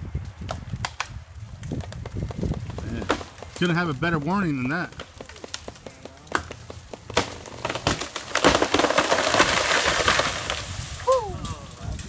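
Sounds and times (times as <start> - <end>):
tree crashing down: 0.0 - 12.0
wood cracking: 0.2 - 12.0.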